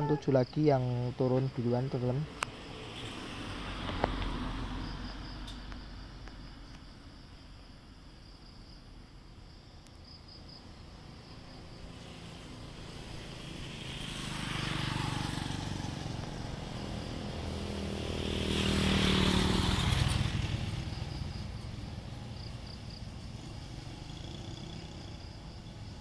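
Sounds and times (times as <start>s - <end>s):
insects chirping: 0.0s - 26.0s
vehicles driving past: 0.1s - 6.4s, 10.8s - 26.0s.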